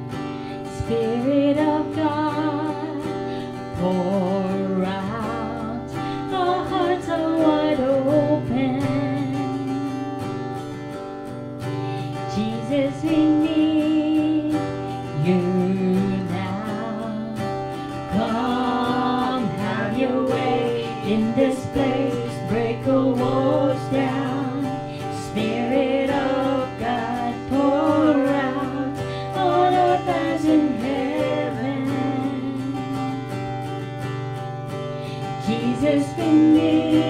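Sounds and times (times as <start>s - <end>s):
acoustic guitar strumming: 0.0s - 37.0s
woman singing into microphone: 0.5s - 10.5s, 12.0s - 33.8s, 35.1s - 37.0s.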